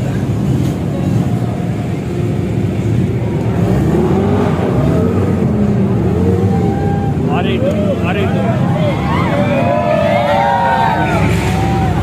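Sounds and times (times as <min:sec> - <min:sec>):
faint voices: 0:00.0 - 0:12.0
vehicle engine running: 0:00.0 - 0:12.0.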